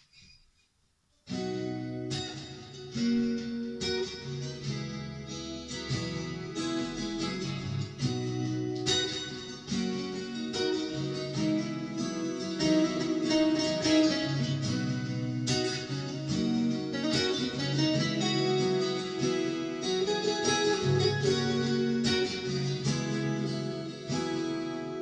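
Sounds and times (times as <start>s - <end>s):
acoustic guitar picked chords: 1.2s - 25.0s.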